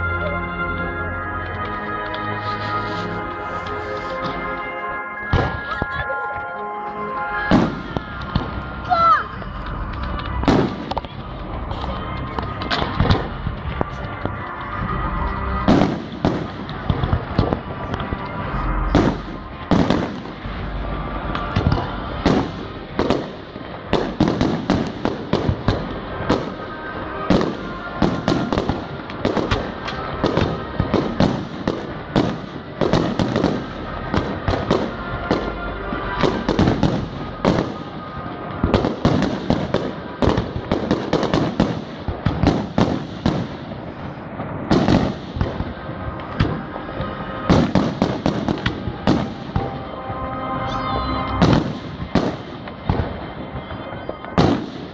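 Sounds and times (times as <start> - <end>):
echoing firework crackle: 0.0 - 54.9.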